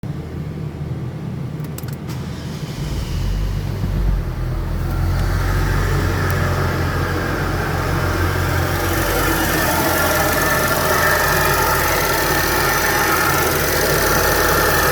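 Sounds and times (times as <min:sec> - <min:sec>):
car engine humming: 0:01.6 - 0:14.9.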